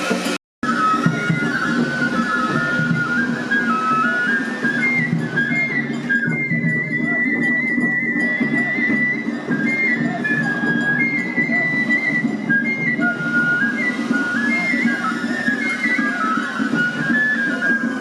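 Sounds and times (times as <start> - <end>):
bamboo flute melody: 0.0 - 18.0
busy lower-pitched accompaniment: 0.0 - 18.0.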